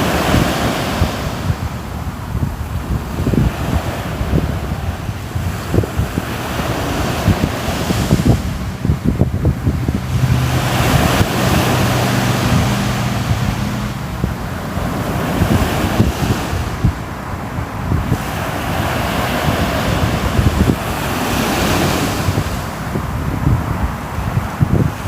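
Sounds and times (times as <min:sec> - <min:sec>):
ocean waves washing ashore: 0:00.0 - 0:25.0
wind buffeting microphone: 0:00.0 - 0:25.0.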